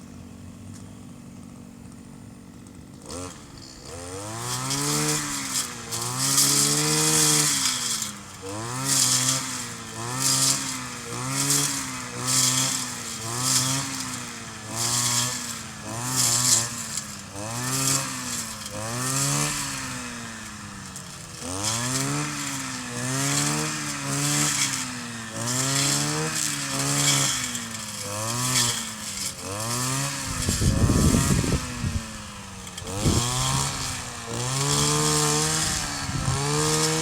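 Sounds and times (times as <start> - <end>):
brush cutter engine revving: 0.0 - 37.0.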